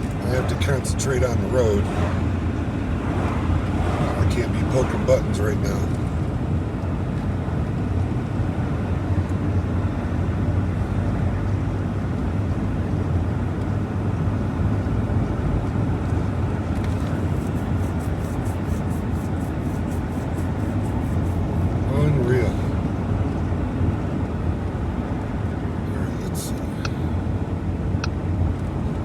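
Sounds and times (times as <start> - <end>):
road and engine noise inside vehicle: 0.0 - 29.0.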